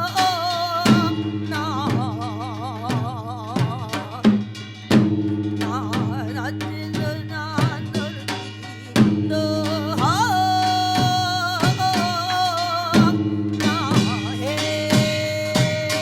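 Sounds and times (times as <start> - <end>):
drum strokes: 0.0 - 16.0.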